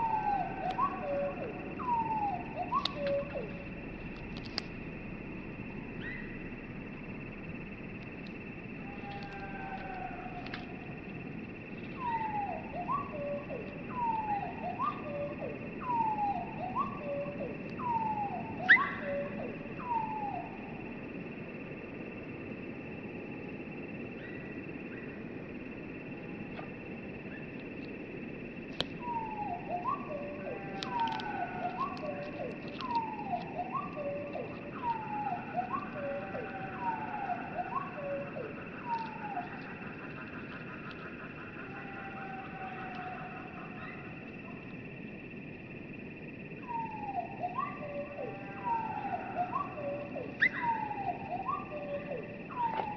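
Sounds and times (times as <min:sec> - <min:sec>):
slowed bird song whistles: 0:00.0 - 0:04.7, 0:05.6 - 0:52.9.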